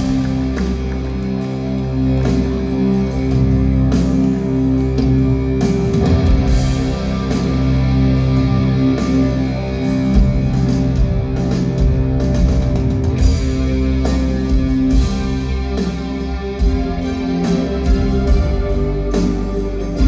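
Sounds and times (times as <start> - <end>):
bass guitar: 0.0 - 20.0
electric guitars playing chords: 0.0 - 20.0.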